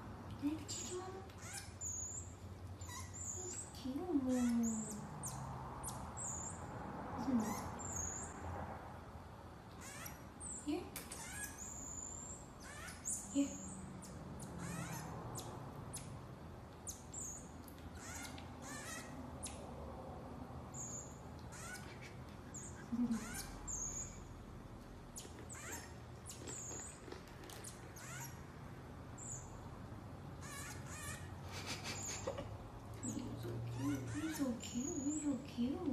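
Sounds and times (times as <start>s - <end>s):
marmoset chirping: 0.7s - 8.5s, 9.7s - 19.8s, 20.6s - 24.4s, 25.1s - 28.5s, 29.1s - 29.7s, 30.3s - 35.9s.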